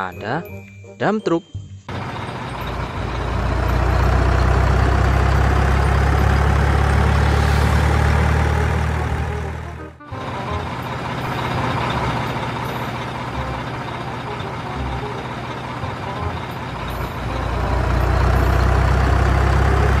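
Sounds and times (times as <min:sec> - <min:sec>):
diesel engine rumbling: 0:01.7 - 0:20.0.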